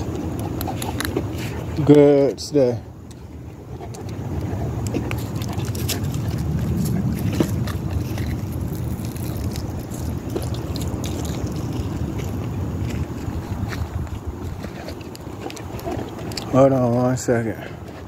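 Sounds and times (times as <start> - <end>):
handling clicks and footsteps: 0.0 - 18.0
low outdoor rumble: 0.0 - 18.0.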